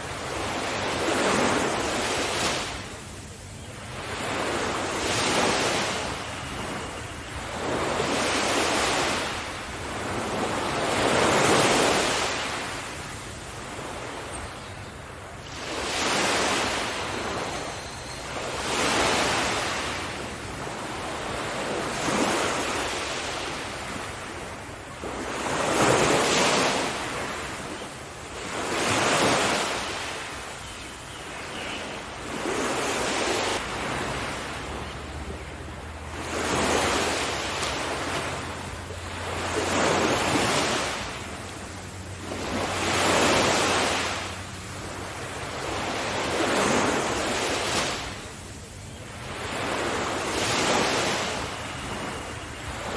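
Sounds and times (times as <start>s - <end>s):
sea waves breaking on shore: 0.0s - 52.9s.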